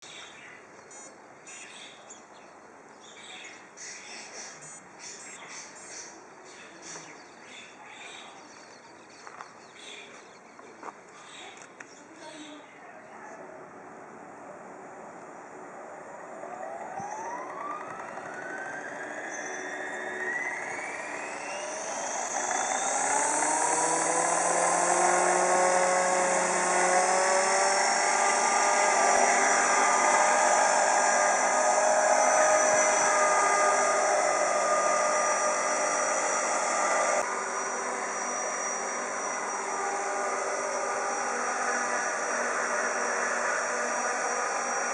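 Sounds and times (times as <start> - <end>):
mini helicopter motor whine: 0.1 - 2.2, 3.0 - 7.8, 14.9 - 44.9.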